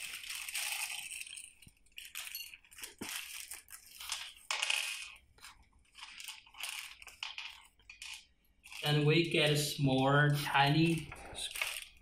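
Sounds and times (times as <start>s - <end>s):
plastic bag crinkling: 0.0s - 9.6s, 10.2s - 12.0s.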